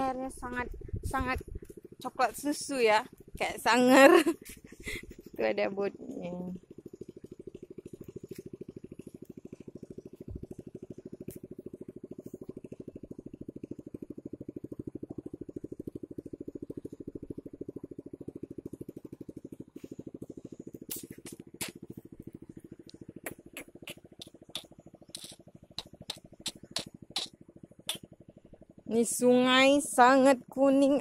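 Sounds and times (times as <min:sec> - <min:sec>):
small engine chugging: 0:00.0 - 0:31.0.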